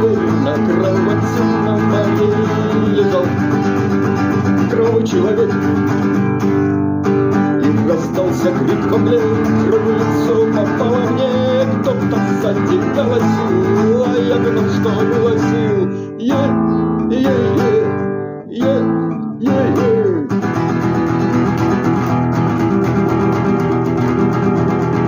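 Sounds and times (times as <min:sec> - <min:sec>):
acoustic guitar strumming: 0:00.0 - 0:25.0
wavering guitar melody: 0:00.0 - 0:25.0.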